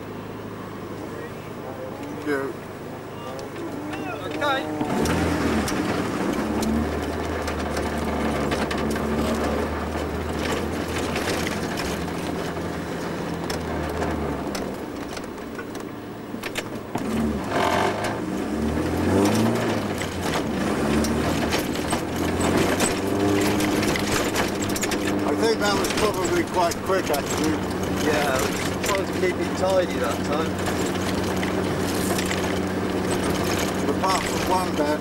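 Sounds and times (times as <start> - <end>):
car engine running: 0.0 - 35.0
small clicks and rattles: 3.4 - 18.2, 19.2 - 35.0.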